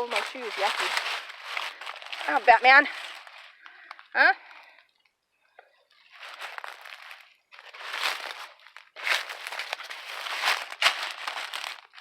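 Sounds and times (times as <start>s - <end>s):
footsteps crunching dry leaves: 0.0s - 4.1s, 6.0s - 12.0s.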